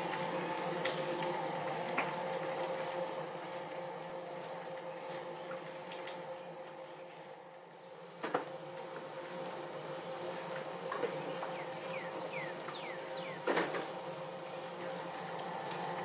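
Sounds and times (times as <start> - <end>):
light rain hiss: 0.0 - 16.0.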